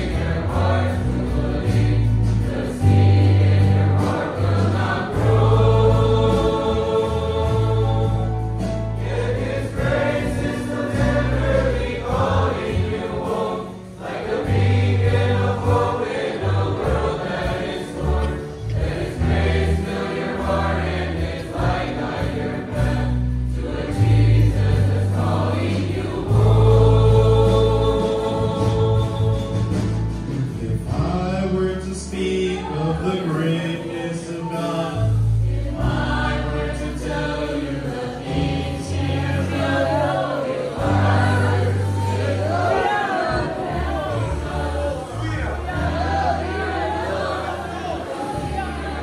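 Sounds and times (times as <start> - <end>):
mixed choir singing a hymn: 0.0 - 49.0.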